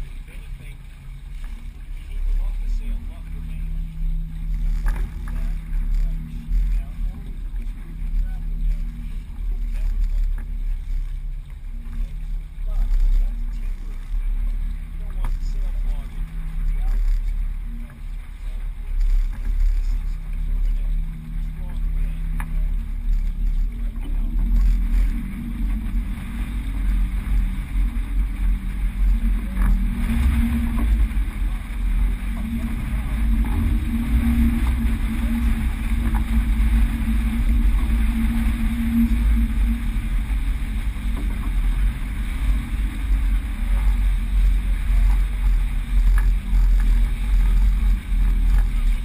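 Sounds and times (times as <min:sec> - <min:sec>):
water rushing along a hull: 0:00.0 - 0:49.0
wind buffeting the microphone: 0:00.0 - 0:49.0.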